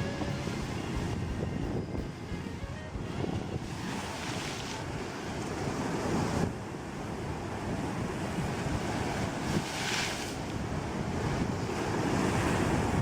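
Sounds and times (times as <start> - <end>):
sea waves breaking: 0.0 - 13.0
wind buffeting microphone: 0.0 - 13.0.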